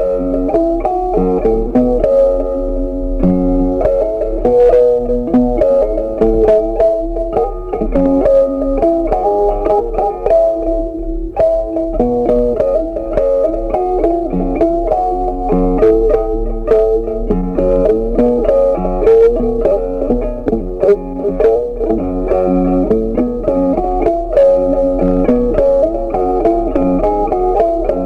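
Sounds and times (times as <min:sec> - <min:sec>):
plucked string instrumental music: 0:00.0 - 0:28.0.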